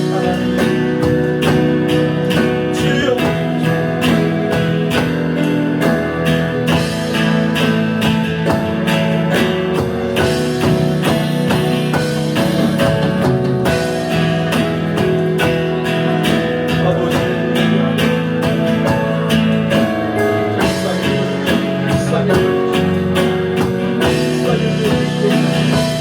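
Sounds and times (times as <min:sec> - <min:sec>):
drum kit beat: 0:00.0 - 0:26.0
guitar: 0:00.0 - 0:26.0.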